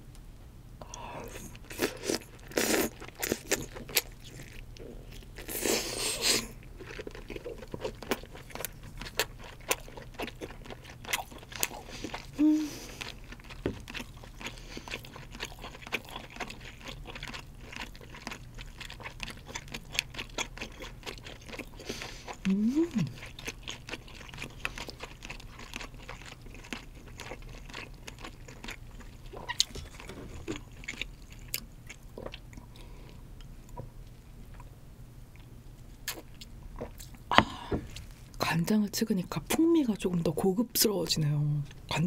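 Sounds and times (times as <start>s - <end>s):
chewing crab meat: 0.9s - 34.7s.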